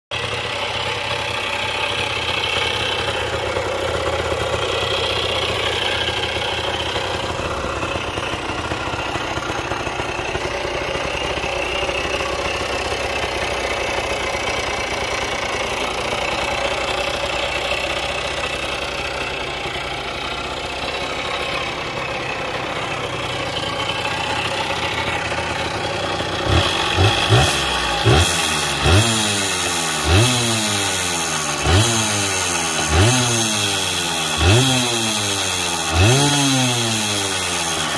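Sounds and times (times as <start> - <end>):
motorcycle engine idling: 0.1 - 37.9.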